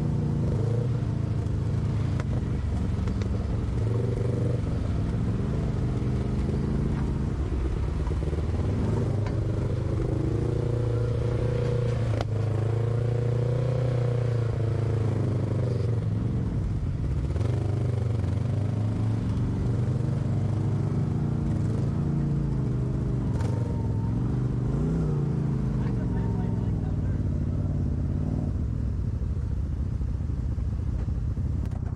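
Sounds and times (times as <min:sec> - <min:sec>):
off-road vehicle engine revving: 0:00.0 - 0:28.8.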